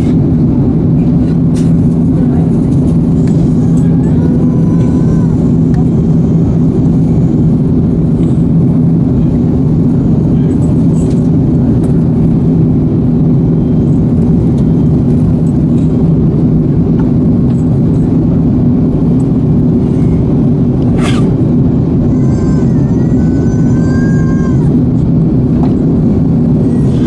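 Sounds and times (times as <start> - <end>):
jet engines droning: 0.0 - 27.0
low steady hum: 0.0 - 27.0.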